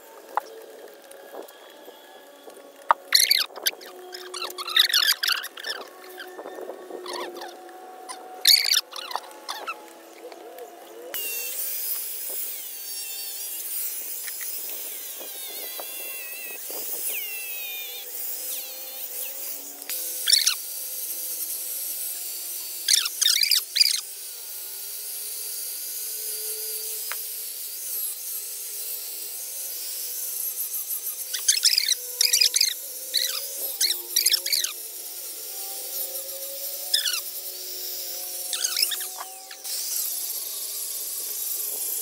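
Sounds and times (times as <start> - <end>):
high-pitched squeals: 0.0 - 27.1, 28.3 - 42.0
angle grinder sanding: 0.0 - 42.0.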